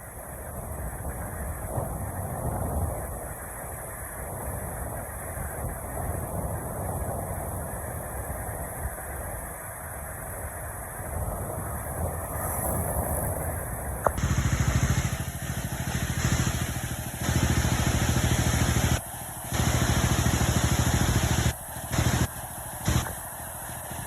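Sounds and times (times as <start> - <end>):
engine running with rapid pulsing: 0.0 - 24.0.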